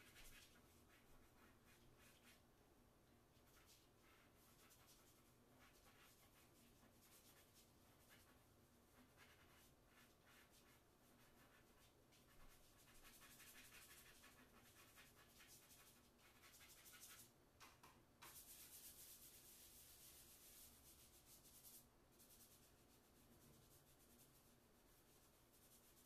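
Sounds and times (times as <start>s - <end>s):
chalk scratching on paper: 0.0s - 2.4s, 3.3s - 17.3s, 18.2s - 26.0s.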